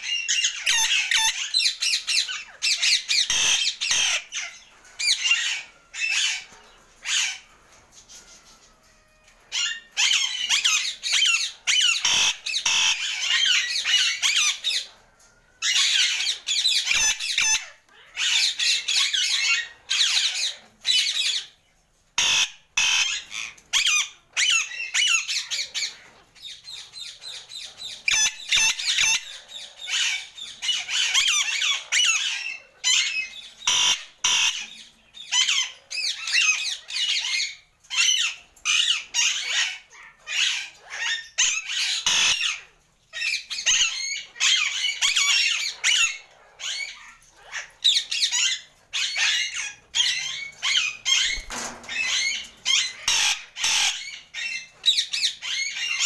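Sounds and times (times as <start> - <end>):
parrots squawking and chattering: 0.0 - 56.0.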